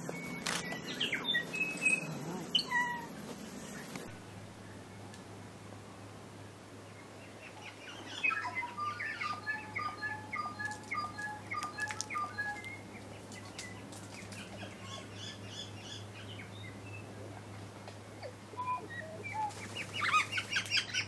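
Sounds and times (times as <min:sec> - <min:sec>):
bird singing: 0:00.0 - 0:05.1, 0:06.8 - 0:21.0.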